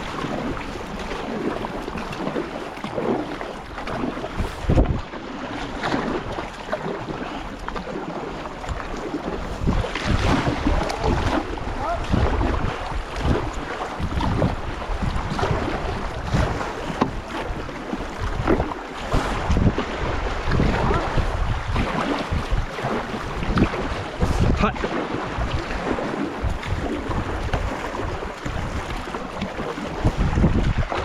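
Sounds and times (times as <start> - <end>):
paddles splashing in water: 0.0 - 31.0
wind buffeting microphone: 0.0 - 31.0.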